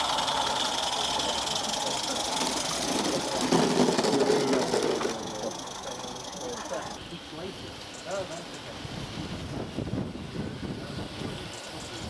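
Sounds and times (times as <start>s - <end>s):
steam hissing: 0.0s - 12.0s
steam locomotive exhaust chuffing: 0.0s - 12.0s.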